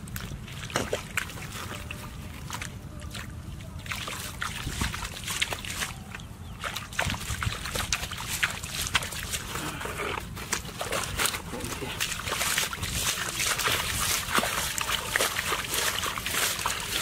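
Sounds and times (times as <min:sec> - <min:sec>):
hand sloshing through muddy water: 0:00.0 - 0:17.0
mud squelching: 0:00.0 - 0:17.0.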